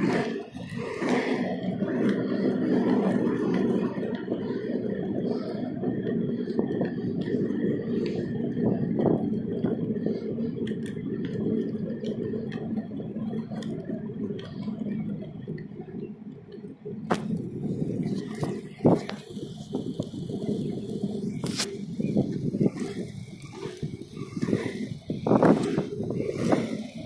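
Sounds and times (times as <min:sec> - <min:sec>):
wheels rolling on asphalt: 0:00.0 - 0:27.0
wind on microphone: 0:00.0 - 0:27.0.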